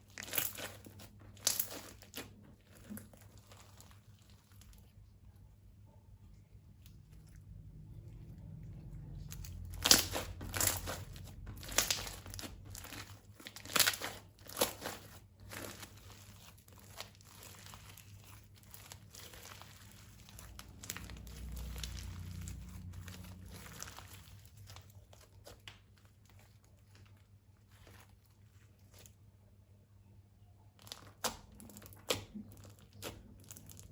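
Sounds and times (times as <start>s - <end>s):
thin plastic crinkling: 0.0s - 5.6s, 6.3s - 29.4s, 30.7s - 33.9s
low rumble of handling: 0.0s - 33.9s.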